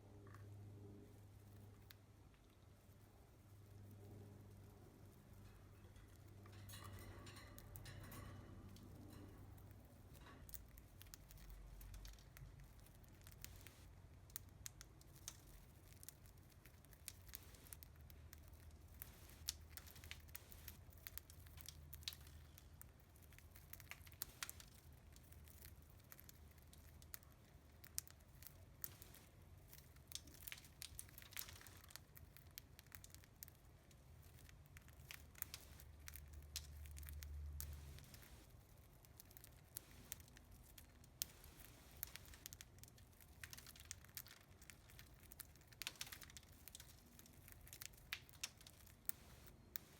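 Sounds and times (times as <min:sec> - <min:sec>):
low steady hum: 0:00.0 - 0:49.9
birds cracking seeds: 0:03.9 - 0:49.9.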